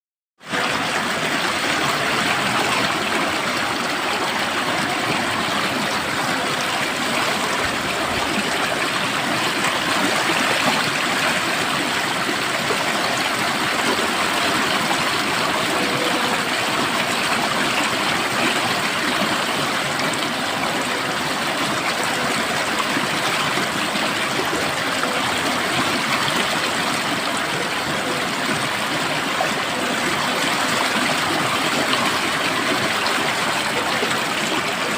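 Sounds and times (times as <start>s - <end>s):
water flowing: 0.4s - 34.9s.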